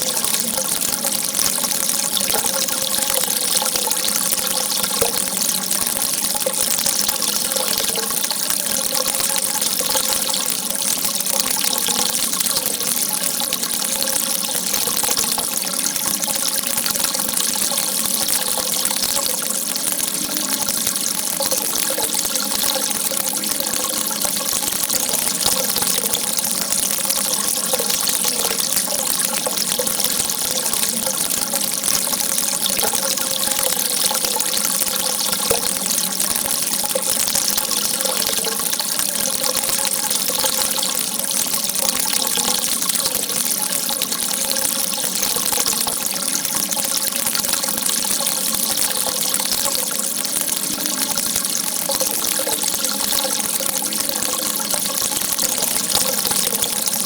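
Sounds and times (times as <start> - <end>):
water gushing: 0.0 - 57.0.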